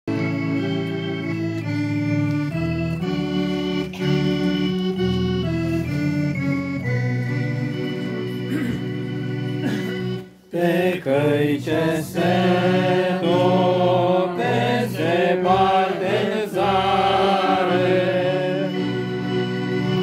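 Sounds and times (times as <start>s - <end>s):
accordions playing hymn chords: 0.1s - 20.0s.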